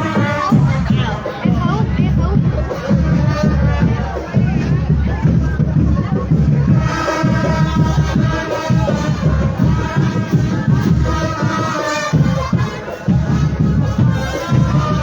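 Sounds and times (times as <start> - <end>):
rapid drum beats: 0.0 - 15.0.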